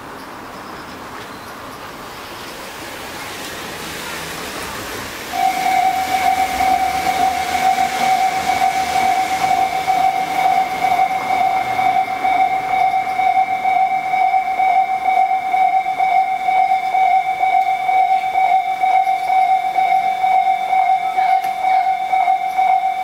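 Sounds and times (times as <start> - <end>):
passing road traffic: 0.0 - 22.9
level-crossing warning bell: 3.9 - 23.0.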